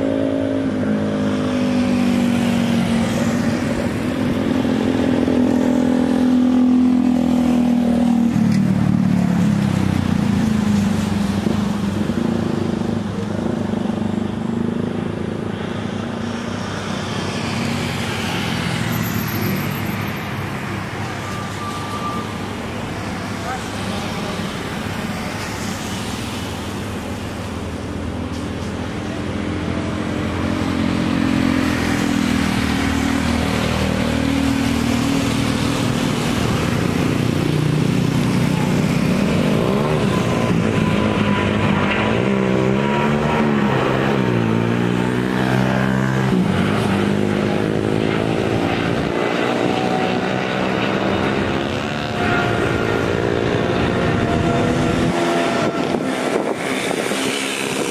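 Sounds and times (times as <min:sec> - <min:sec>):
jet engines at takeoff: 0:00.0 - 0:57.9.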